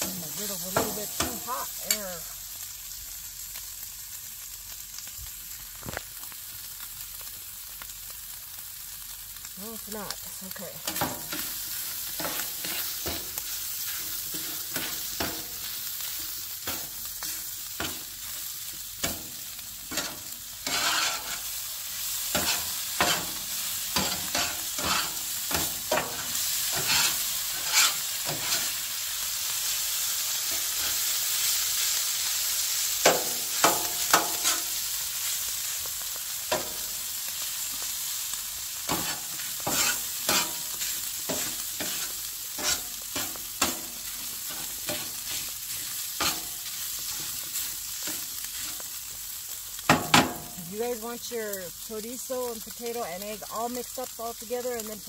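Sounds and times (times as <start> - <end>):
potatoes sizzling on a griddle: 0.0 - 55.0.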